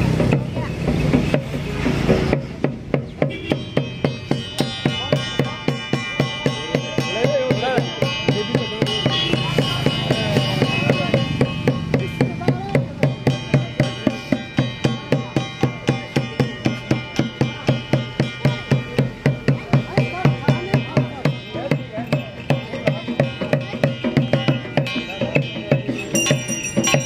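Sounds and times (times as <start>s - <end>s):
drums beating: 0.0s - 27.0s
wavering reed melody: 3.2s - 27.0s.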